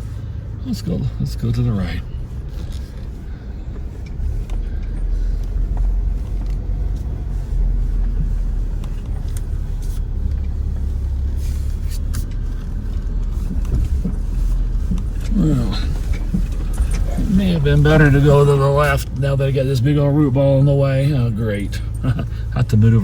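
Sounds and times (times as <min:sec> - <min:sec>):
truck low rumble: 0:00.0 - 0:23.0.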